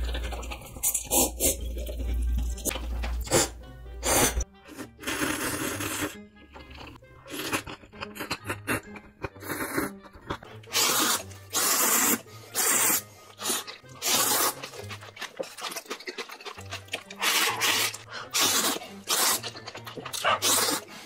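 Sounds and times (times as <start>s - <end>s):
noodles being slurped: 0.0s - 21.0s.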